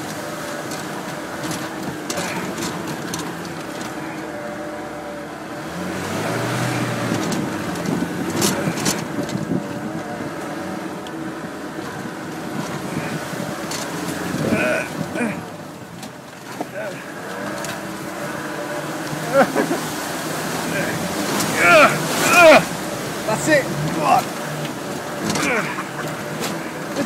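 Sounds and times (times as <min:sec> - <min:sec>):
vehicle knocks and rattles: 0:00.0 - 0:04.7, 0:05.5 - 0:27.0
off-road vehicle engine: 0:00.0 - 0:27.0.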